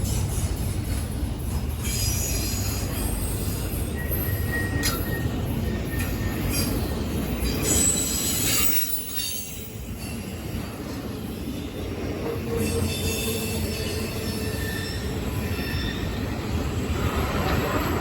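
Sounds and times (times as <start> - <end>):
train rumbling: 0.0 - 18.0
train wheels squealing: 0.0 - 18.0.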